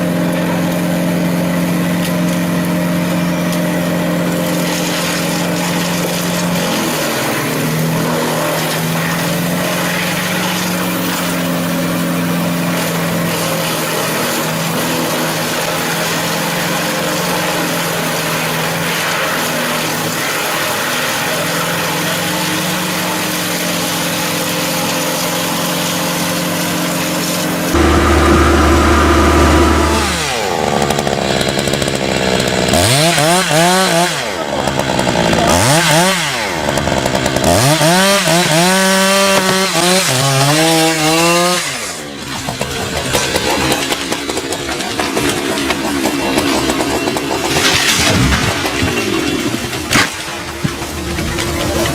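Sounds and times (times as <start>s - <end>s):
chainsaw engine running: 0.0s - 51.9s
loud saw revving: 0.0s - 51.9s.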